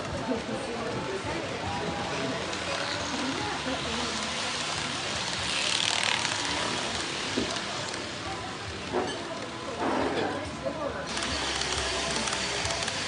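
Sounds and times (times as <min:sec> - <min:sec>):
model train wheels on rails: 0:00.0 - 0:10.1, 0:11.1 - 0:13.0.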